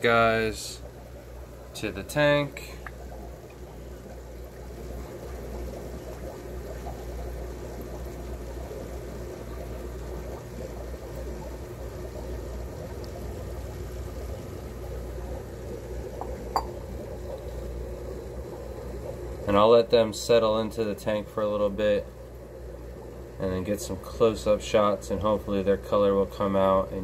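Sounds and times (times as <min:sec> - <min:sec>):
steady low hum: 0:00.0 - 0:27.0
water pouring and sloshing: 0:00.0 - 0:27.0.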